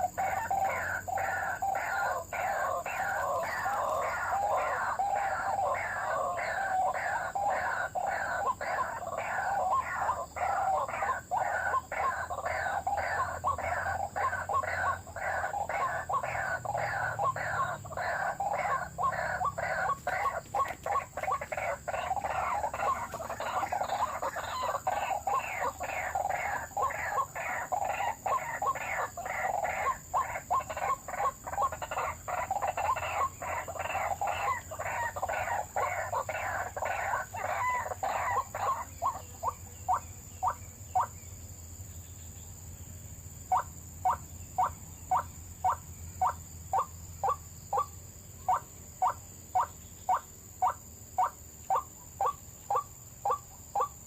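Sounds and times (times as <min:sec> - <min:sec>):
waterhen harsh rhythmic calls: 0:00.0 - 0:41.1, 0:43.5 - 0:54.0.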